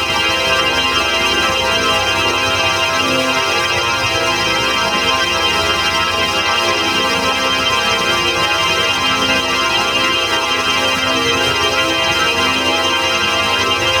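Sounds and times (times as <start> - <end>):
organ holding a chord: 0.0 - 14.0.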